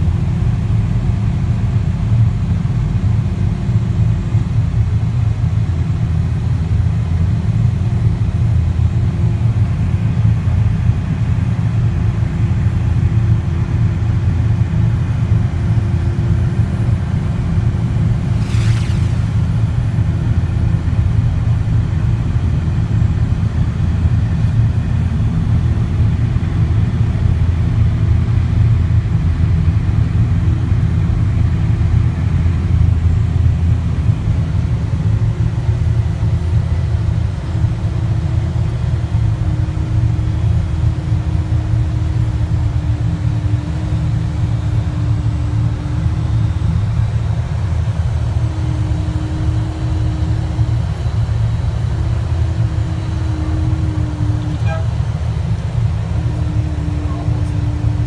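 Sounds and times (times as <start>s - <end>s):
jet engines idling: 0.0s - 58.0s
steady hum: 0.0s - 58.0s
tug engine low rumble: 0.0s - 58.0s.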